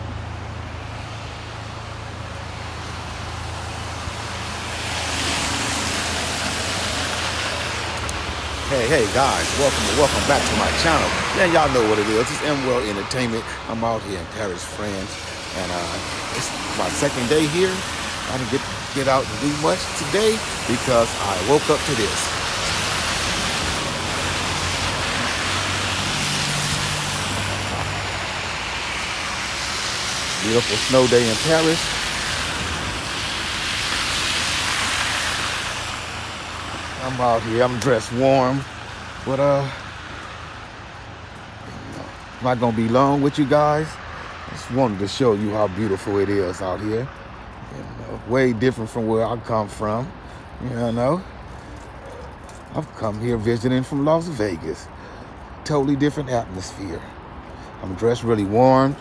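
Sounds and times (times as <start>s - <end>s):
road traffic rumble: 0.0s - 59.0s
street noise: 0.0s - 59.0s
vehicle engine hum: 0.0s - 59.0s.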